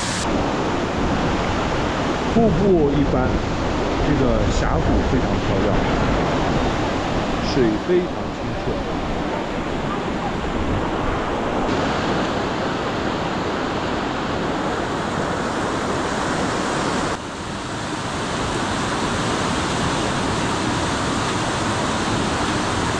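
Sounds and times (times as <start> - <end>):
rushing river roar: 0.0 - 22.9.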